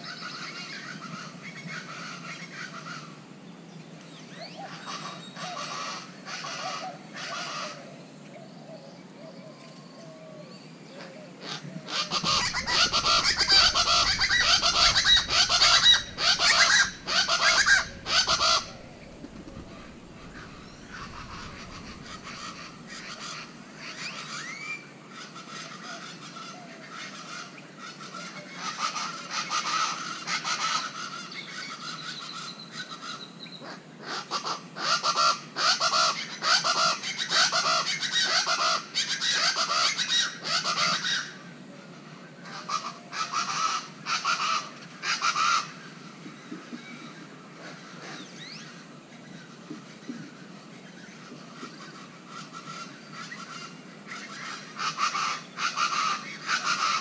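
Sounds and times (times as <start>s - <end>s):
birds calling rapidly: 11.0s - 57.0s.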